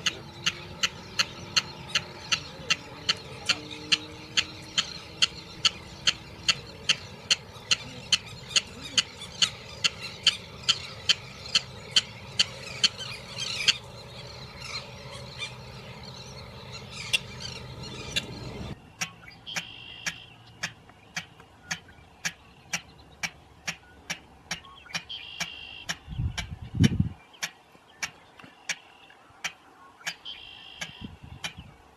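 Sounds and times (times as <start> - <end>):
bird call sharp clacks: 0.0 - 13.9, 17.1 - 26.5, 27.4 - 31.6.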